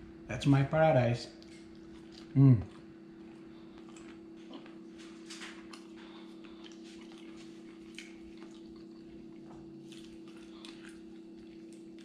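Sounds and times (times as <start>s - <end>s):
steady low hum: 0.0s - 12.0s
chewing and mouth clicks: 1.3s - 12.0s.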